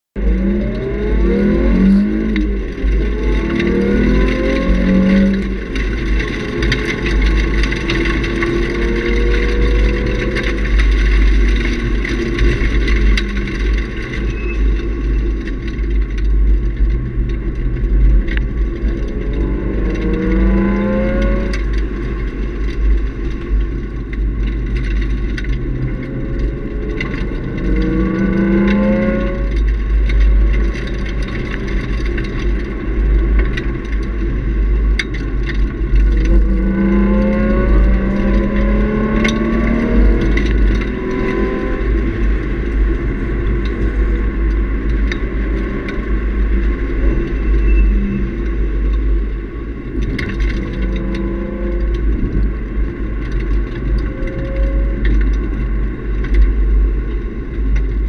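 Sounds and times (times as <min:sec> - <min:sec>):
road and wind noise: 0:00.0 - 0:58.0
car engine revving: 0:00.2 - 0:56.6.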